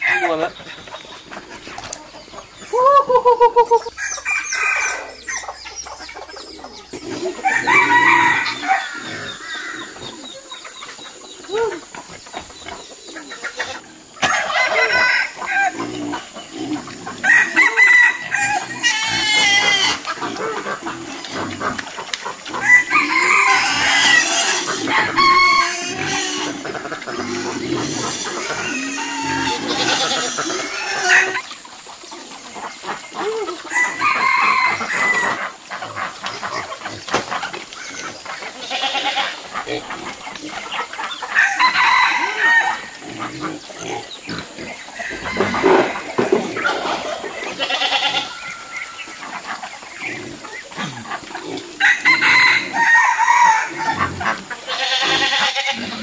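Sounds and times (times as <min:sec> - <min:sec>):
roosters crowing: 0:00.0 - 0:31.6, 0:32.8 - 0:36.8, 0:38.0 - 0:49.2, 0:49.9 - 0:56.0
chickens clucking: 0:00.0 - 0:56.0.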